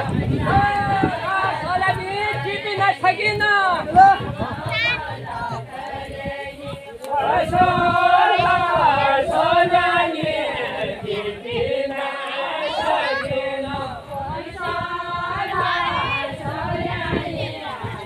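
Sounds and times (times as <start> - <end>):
group singing folk song: 0.0 - 18.0.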